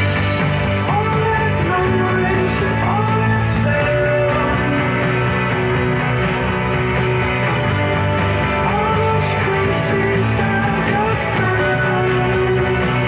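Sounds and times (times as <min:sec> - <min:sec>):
rock music with guitar and vocals: 0:00.0 - 0:13.0.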